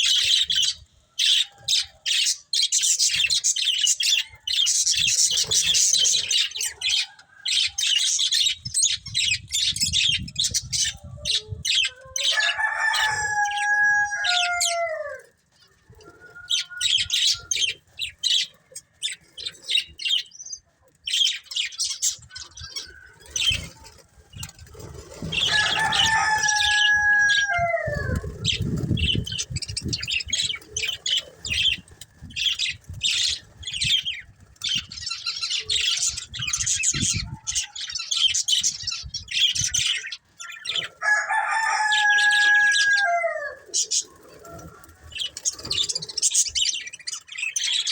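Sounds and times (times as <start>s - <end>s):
budgies chirping: 0.0s - 47.9s.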